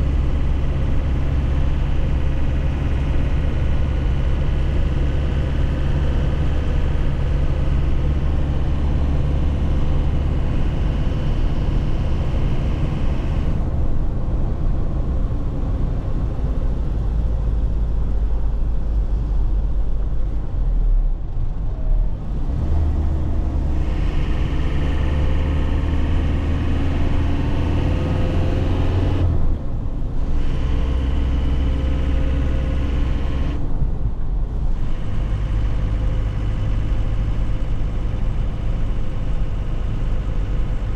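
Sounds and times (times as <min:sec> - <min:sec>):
diesel engine from inside cab: 0:00.0 - 0:40.9.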